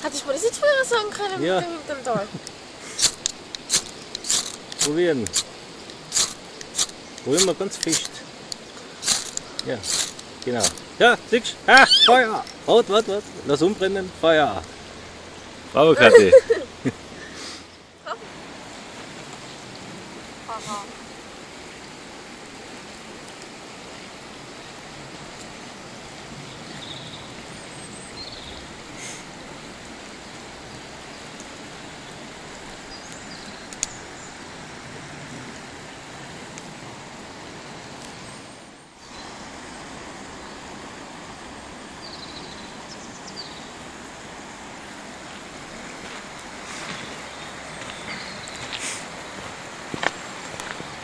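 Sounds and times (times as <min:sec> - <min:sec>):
river rushing over stones: 0:00.0 - 0:51.0.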